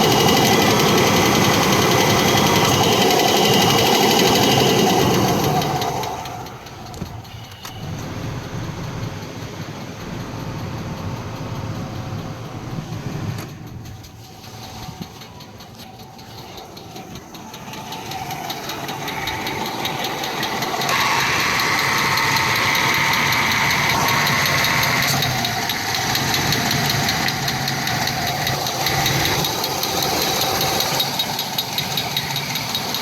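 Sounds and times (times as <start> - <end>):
engine knocking: 0.0 - 33.0.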